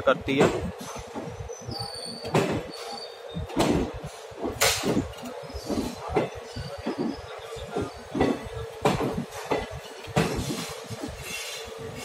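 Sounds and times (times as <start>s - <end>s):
train wheels knocking over rail joints: 0.2s - 1.4s, 2.2s - 11.6s.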